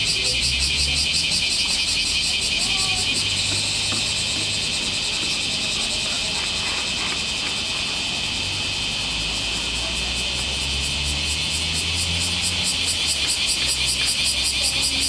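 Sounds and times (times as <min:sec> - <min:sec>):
cicadas chorus: 0:00.0 - 0:15.0.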